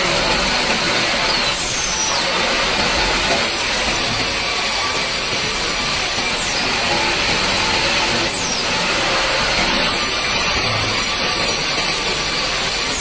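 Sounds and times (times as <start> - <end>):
band saw running: 0.0 - 13.0.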